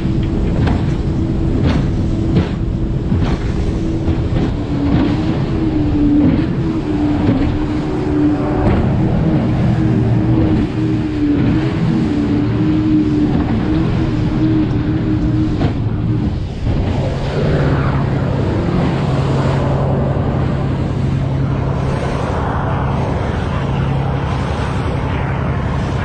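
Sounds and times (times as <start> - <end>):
speedboat engine running: 0.0 - 26.0
water and spray rushing: 0.0 - 26.0.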